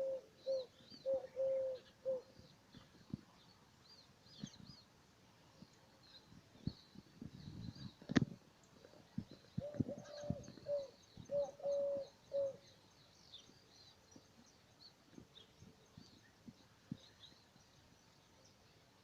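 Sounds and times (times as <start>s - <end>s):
bird singing low notes: 0.0s - 4.9s, 5.6s - 18.6s
small birds chirping: 0.0s - 19.0s.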